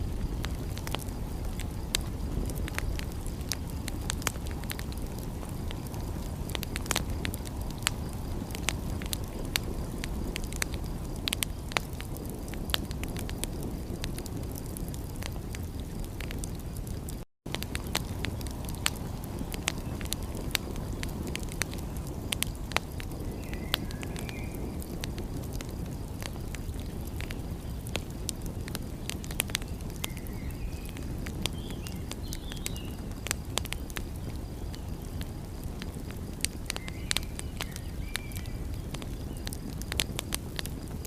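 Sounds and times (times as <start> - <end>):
fire pops and snaps: 0.0 - 41.0
low fire rumble: 0.0 - 41.0
wood fire crackling: 0.0 - 41.0.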